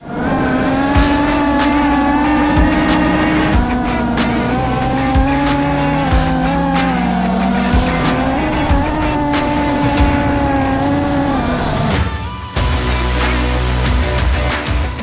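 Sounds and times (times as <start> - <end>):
held chords: 0.6 - 15.0
low thumps: 0.9 - 13.0
background music with steady beat: 1.0 - 10.5, 11.9 - 15.0.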